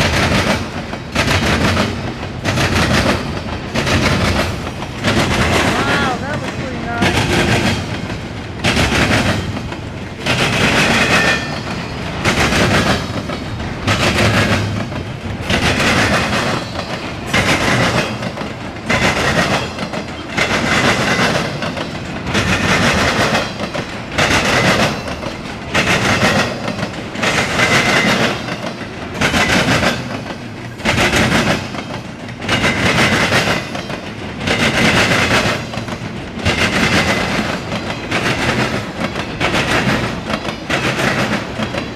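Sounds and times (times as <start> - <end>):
freight train wheels clattering: 0.0 - 41.9.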